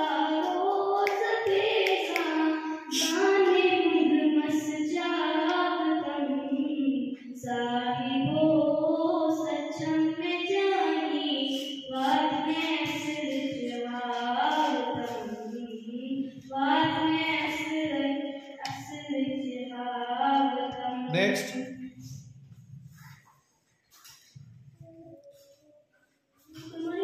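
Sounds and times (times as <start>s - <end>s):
child singing into microphone: 0.0s - 23.2s, 24.0s - 27.0s.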